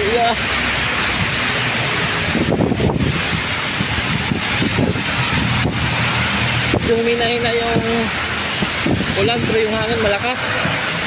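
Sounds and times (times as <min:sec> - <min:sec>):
rain hissing on wet road: 0:00.0 - 0:11.0
traffic passing: 0:00.0 - 0:11.0
wind gusting on microphone: 0:00.0 - 0:11.0.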